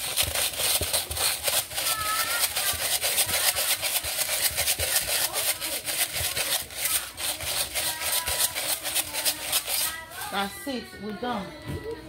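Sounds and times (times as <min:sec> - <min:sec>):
salt grinder crunching: 0:00.0 - 0:10.3.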